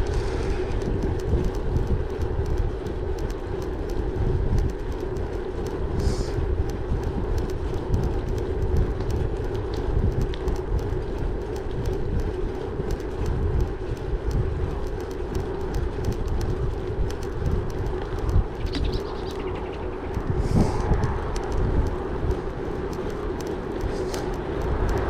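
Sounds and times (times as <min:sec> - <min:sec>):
bike tyres rumbling on gravel: 0:00.0 - 0:25.0
wind buffeting microphone: 0:00.0 - 0:25.0.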